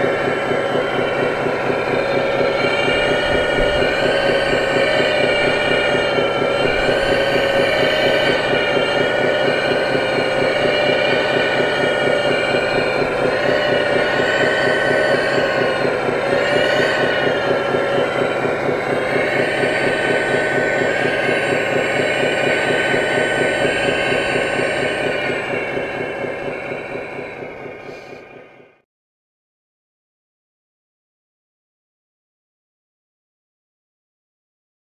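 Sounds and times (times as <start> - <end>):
hydraulic pump whine: 0.0 - 28.8.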